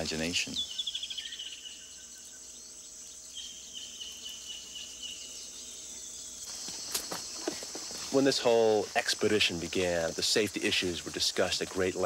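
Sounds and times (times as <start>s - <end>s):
insects buzzing: 0.0s - 12.0s
insects chirping rapidly: 0.0s - 12.0s.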